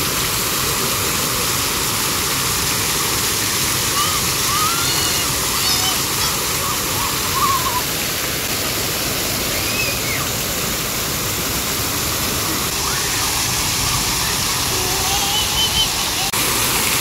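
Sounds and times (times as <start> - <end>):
fountain jets spraying: 0.0 - 17.0
waterfall cascading: 0.0 - 17.0.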